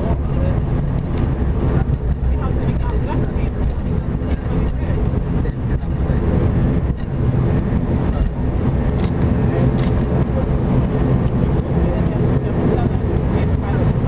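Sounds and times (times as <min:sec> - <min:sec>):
low engine rumble: 0:00.0 - 0:14.0
propeller drone: 0:00.0 - 0:14.0.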